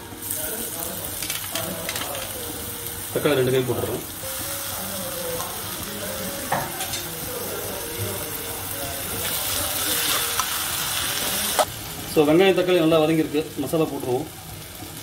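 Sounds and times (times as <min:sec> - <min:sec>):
onions and tomatoes sizzling in oil: 0:00.0 - 0:15.0.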